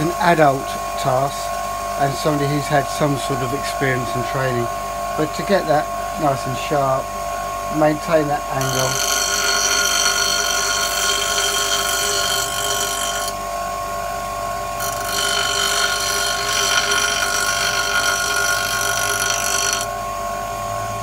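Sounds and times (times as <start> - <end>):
tool grinding on wheel: 0.0 - 13.5, 14.6 - 20.0
bench grinder motor hum: 0.0 - 21.0.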